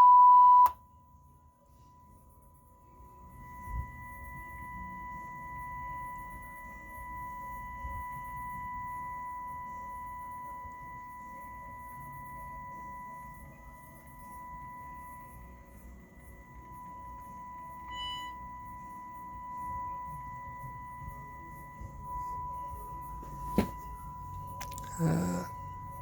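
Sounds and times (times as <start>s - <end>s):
steady pure test tone: 2.8s - 26.0s.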